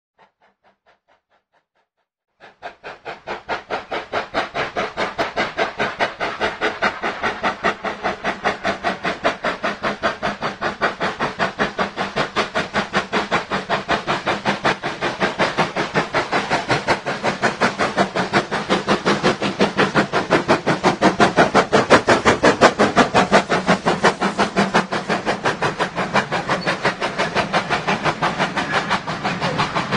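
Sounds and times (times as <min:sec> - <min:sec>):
steam locomotive chuffing: 0:02.4 - 0:29.9.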